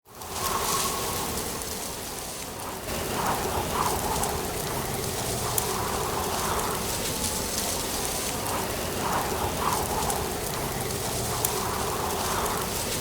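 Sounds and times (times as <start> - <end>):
wind through dry leaves: 0.1 - 13.0
light ticks: 0.3 - 13.0.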